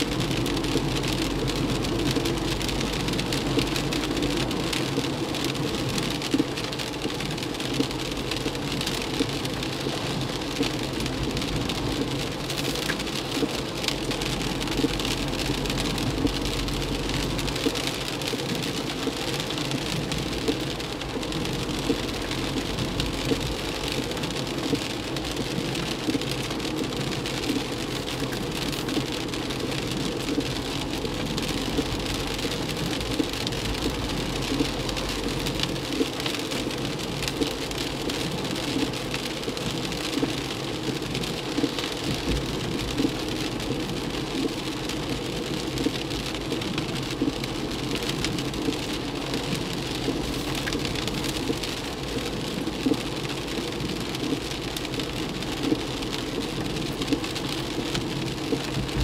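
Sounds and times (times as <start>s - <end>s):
heavy rain on a car: 0.0s - 59.0s
tyre noise on wet road: 0.0s - 59.0s.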